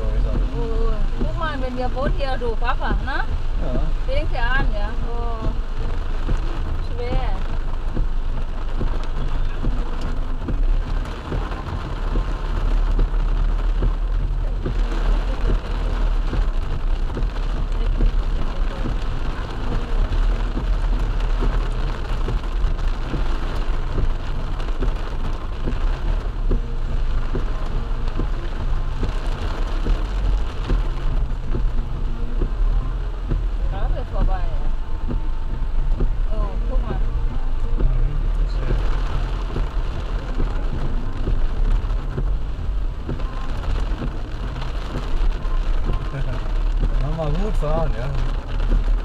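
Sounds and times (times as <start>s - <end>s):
heavy rain on car roof: 0.0s - 49.0s
low rumble: 0.0s - 49.0s.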